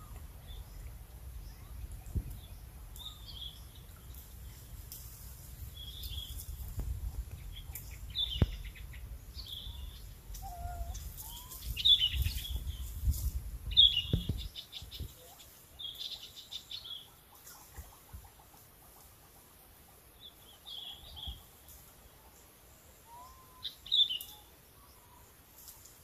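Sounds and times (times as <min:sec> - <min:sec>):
bird chirping: 0:00.0 - 0:04.9, 0:05.8 - 0:12.9, 0:13.7 - 0:17.6, 0:20.2 - 0:25.4.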